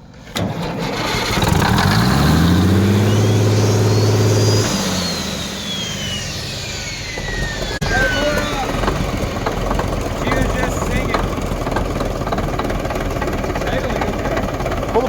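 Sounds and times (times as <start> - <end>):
diesel engine racing: 0.1 - 15.0
engine whine spinning down: 0.6 - 15.0.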